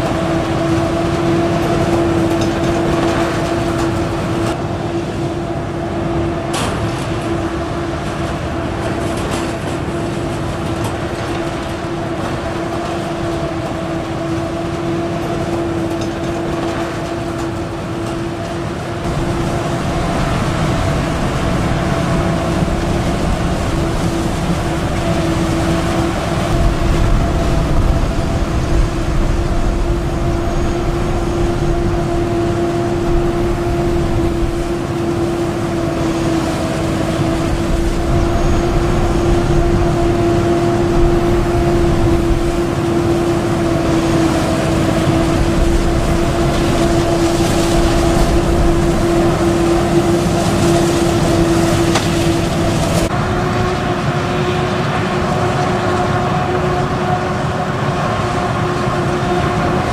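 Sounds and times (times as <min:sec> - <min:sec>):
machine humming drone: 0:00.0 - 0:59.9.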